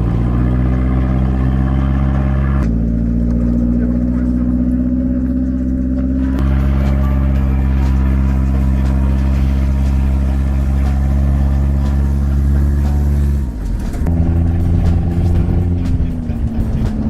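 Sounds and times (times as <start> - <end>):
rougher engine note: 0.0 - 17.0
vehicle engine running: 0.0 - 17.0.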